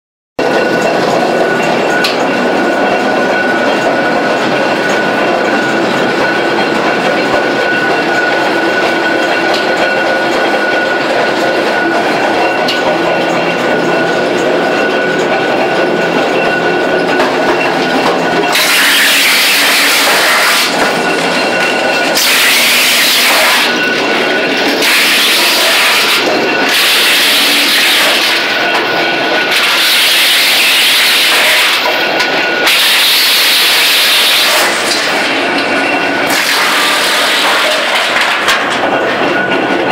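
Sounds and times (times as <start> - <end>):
wood chipper motor drone: 0.5 - 39.2.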